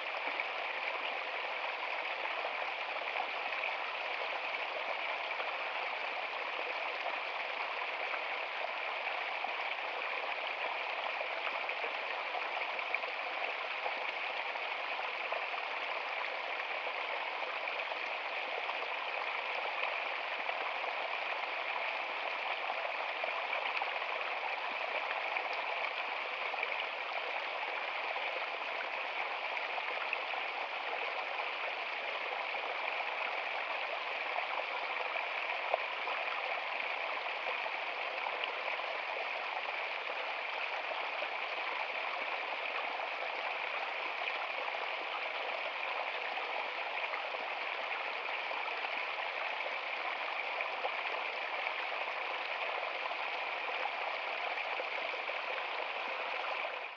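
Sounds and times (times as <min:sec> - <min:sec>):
stream trickling over rocks: 0:00.0 - 0:56.9.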